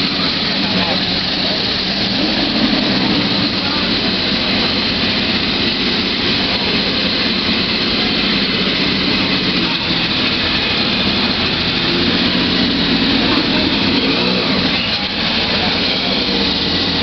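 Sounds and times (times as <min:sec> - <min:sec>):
race car engine at low revs: 0:00.0 - 0:17.0.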